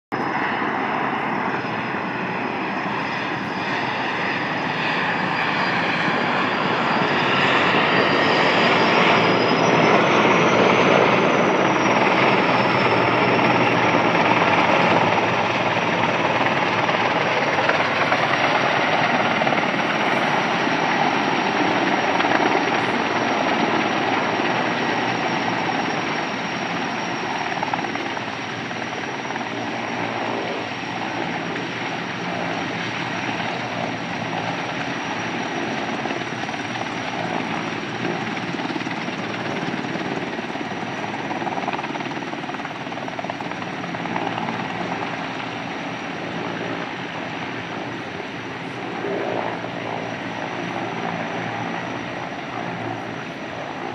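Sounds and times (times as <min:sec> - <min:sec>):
helicopter rotor and turbine noise: 0:00.1 - 0:53.9
high turbine whine: 0:00.1 - 0:53.9.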